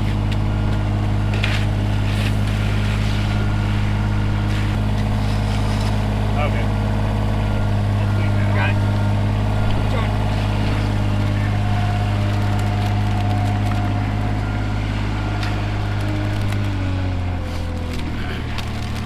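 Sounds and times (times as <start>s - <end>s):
heavy engine humming: 0.0s - 19.0s.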